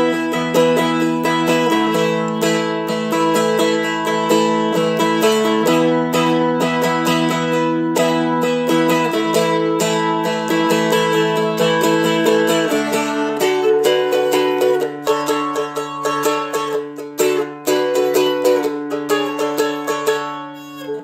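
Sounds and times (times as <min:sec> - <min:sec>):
dulcimer strumming chords: 0:00.0 - 0:21.0.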